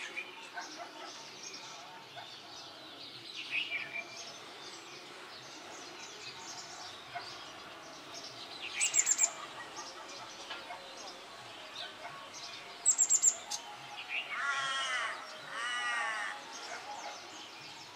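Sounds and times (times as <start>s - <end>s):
birds chirping and calling: 0.0s - 17.9s.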